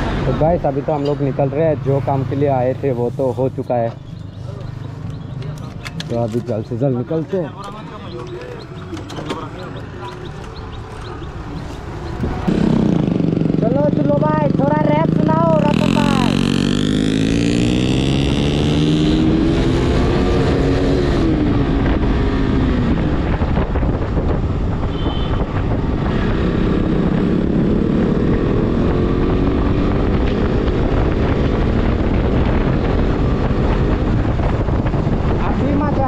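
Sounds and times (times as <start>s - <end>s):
motorcycle engine revving: 1.1s - 36.0s
wind buffeting microphone: 4.2s - 13.6s, 14.5s - 36.0s.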